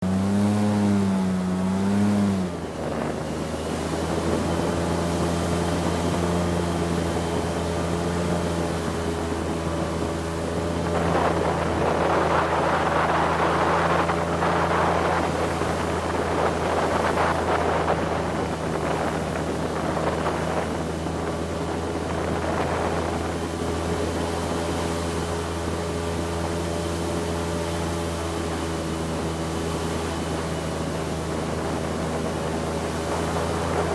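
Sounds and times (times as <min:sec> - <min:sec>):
airboat engine and propeller: 0:00.0 - 0:33.9
rushing wind and spray: 0:00.0 - 0:33.9.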